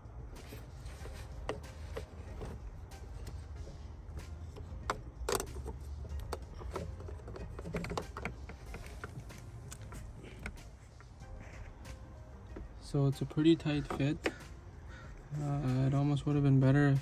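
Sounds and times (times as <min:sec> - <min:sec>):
low steady rumble: 0:00.0 - 0:16.8
hands fitting filter onto metal pipe: 0:00.4 - 0:16.1.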